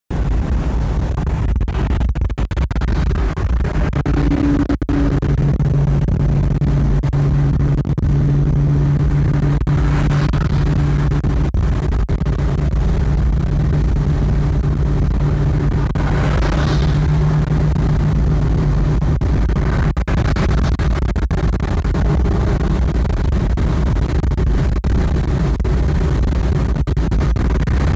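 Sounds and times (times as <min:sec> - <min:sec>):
car engine drone: 0:00.1 - 0:27.9.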